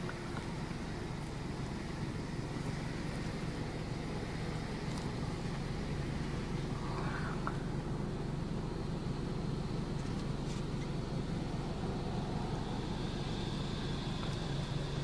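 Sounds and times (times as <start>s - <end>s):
car wash spray hissing: 0.0s - 15.0s
low hum: 0.0s - 15.0s.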